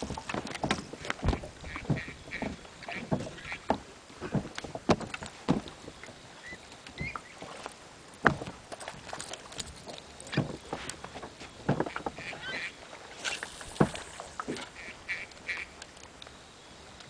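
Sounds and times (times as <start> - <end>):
waves slapping against boat: 0.0 - 15.9.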